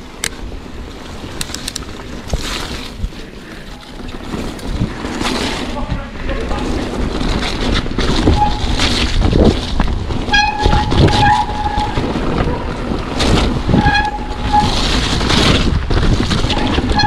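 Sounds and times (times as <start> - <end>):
bike rattling over bumps: 0.0 - 17.0
bike tyres rolling on dirt: 0.0 - 17.0
wind on microphone: 0.0 - 17.0.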